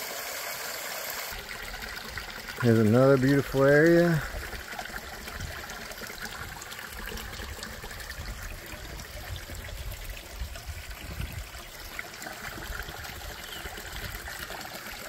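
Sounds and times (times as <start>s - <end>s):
water trickling down boulders: 0.0s - 15.0s.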